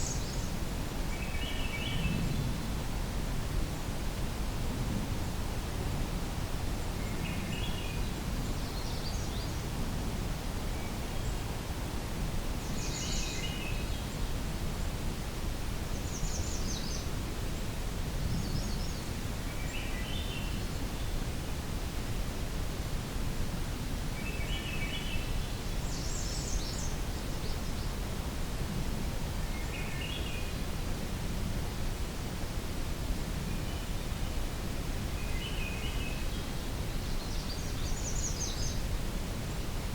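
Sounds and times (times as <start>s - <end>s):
steady low hiss: 0.0s - 39.9s.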